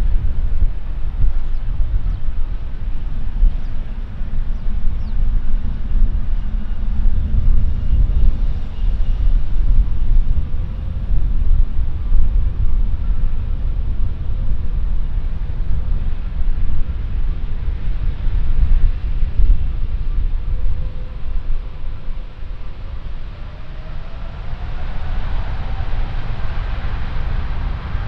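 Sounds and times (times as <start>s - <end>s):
faint high engine whine: 0.0s - 28.0s
jet engine low rumble: 0.0s - 28.0s.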